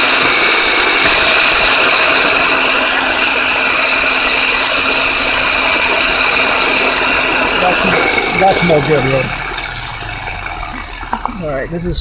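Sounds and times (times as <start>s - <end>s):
starter motor whirring: 0.0s - 12.0s.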